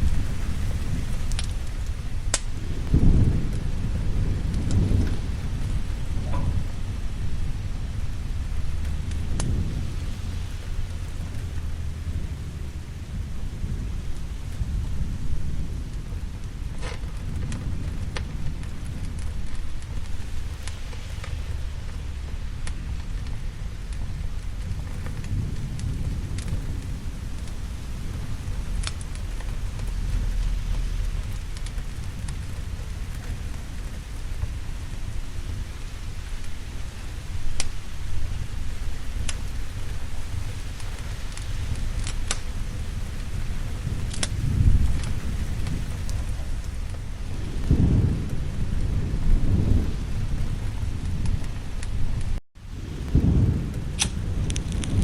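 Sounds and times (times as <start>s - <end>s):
low rumble of thunder: 0.0s - 55.0s
steady rain: 0.0s - 55.0s
wood fire crackling: 0.0s - 55.0s.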